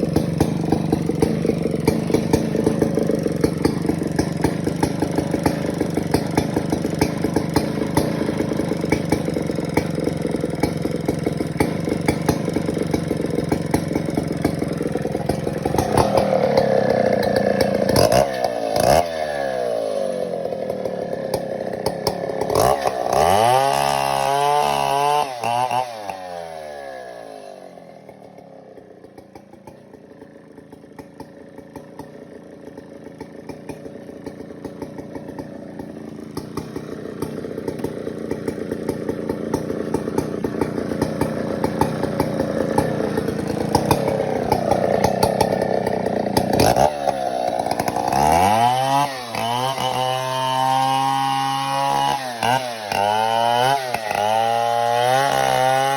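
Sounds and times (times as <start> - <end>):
chainsaw cutting timber: 0.0 - 55.9.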